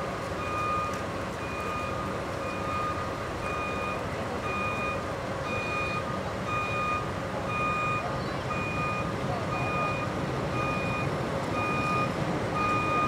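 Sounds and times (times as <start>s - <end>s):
steady background noise: 0.0s - 13.0s
electronic warning beeps: 0.4s - 13.0s.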